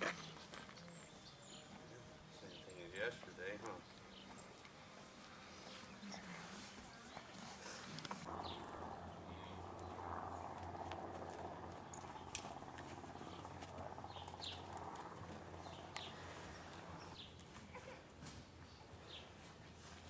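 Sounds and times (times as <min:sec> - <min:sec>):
steady low hum: 0:01.0 - 0:17.5.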